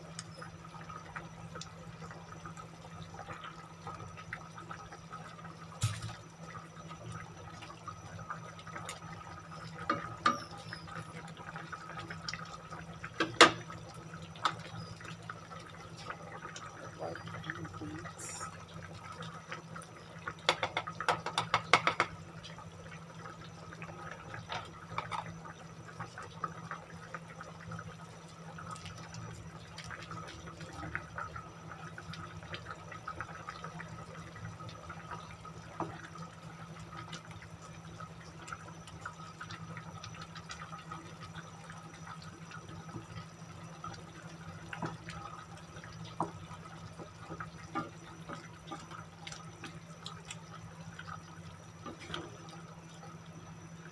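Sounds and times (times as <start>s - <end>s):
low steady hum: 0.0s - 53.9s
stew bubbling and popping: 0.0s - 53.9s.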